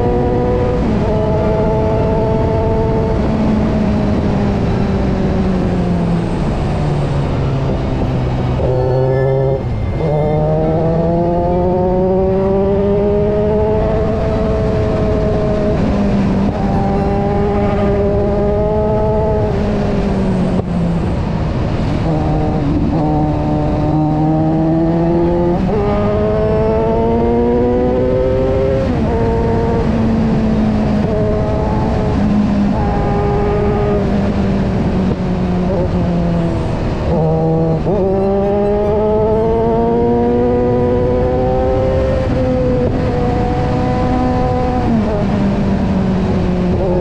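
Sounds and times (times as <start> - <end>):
motorcycle engine at speed: 0.0 - 47.0.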